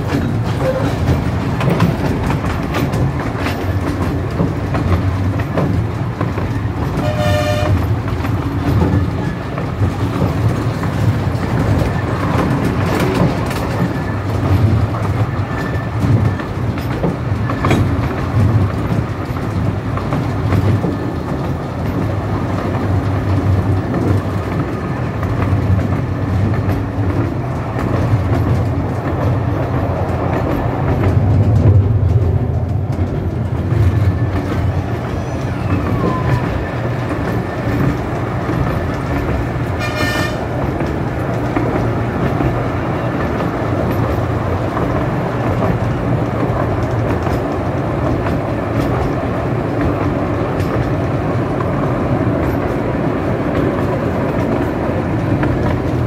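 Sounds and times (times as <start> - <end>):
miniature train rumbling: 0.0 - 56.0
wheels clicking over rail joints: 0.0 - 56.0.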